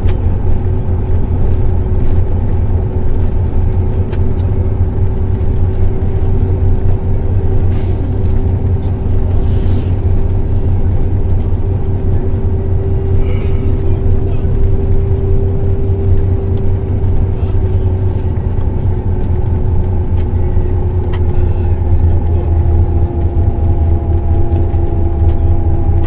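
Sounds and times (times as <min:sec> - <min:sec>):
faint whine: 0:00.0 - 0:26.0
road and engine rumble: 0:00.0 - 0:26.0.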